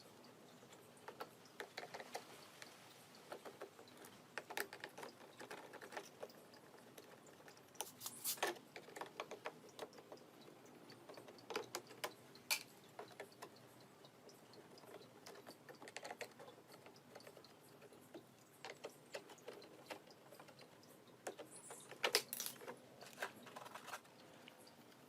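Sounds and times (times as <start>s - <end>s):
small parts clicking and rattling: 0.0s - 25.0s.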